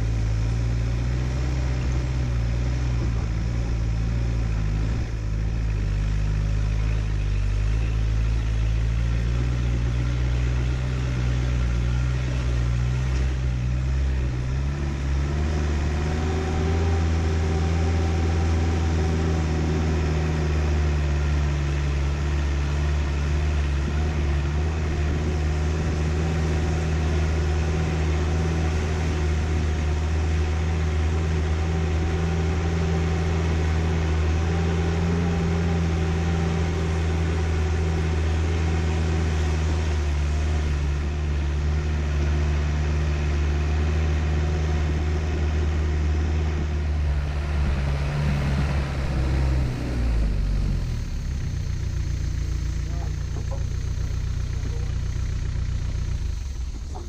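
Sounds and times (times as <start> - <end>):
vehicle engine driving on dirt: 0.0 - 57.0.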